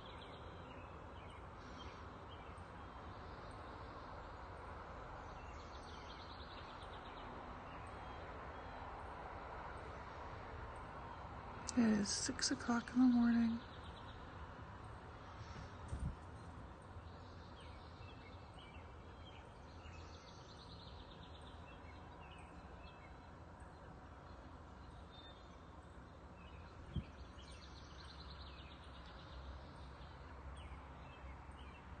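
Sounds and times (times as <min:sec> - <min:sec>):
faint bird chirps and trills: 0:00.0 - 0:32.0.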